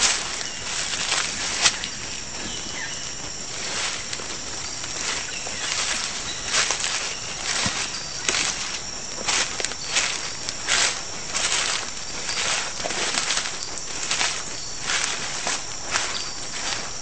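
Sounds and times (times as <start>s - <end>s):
footsteps crunching dry leaves: 0.0s - 17.0s
high insect drone: 0.0s - 17.0s.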